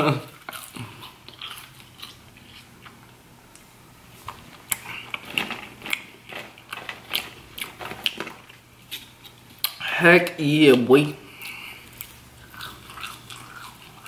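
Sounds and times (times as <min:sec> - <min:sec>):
chewing fries: 0:00.0 - 0:03.6, 0:04.2 - 0:14.0.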